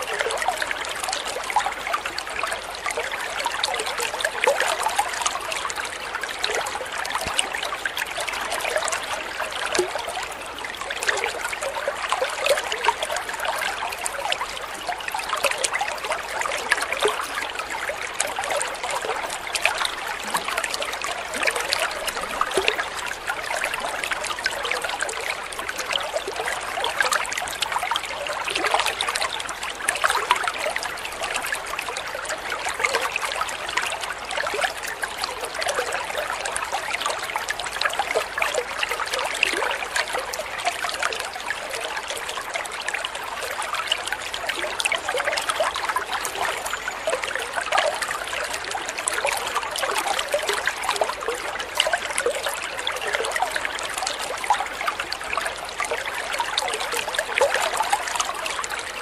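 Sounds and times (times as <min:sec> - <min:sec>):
water pouring into pond: 0:00.0 - 0:59.0.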